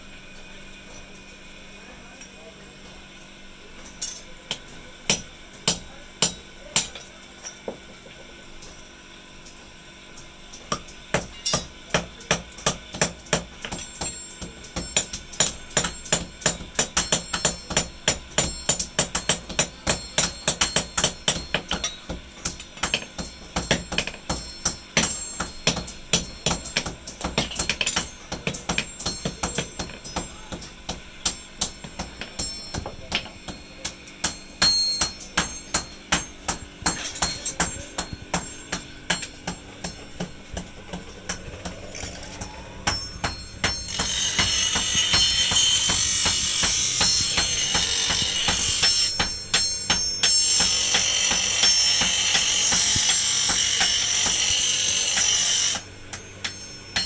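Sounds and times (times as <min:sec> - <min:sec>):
hammer striking steel on anvil: 0:04.0 - 0:07.9, 0:10.7 - 0:57.0.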